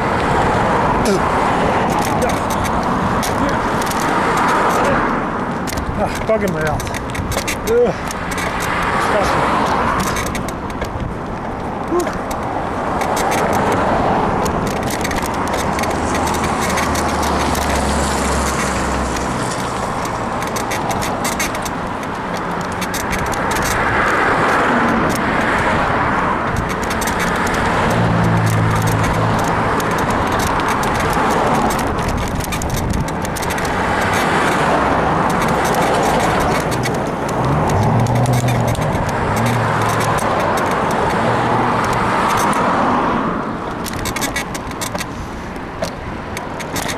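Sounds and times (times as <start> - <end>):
bicycle frame creaking clicks: 0.0 - 46.9
motor vehicle passing: 0.0 - 46.9.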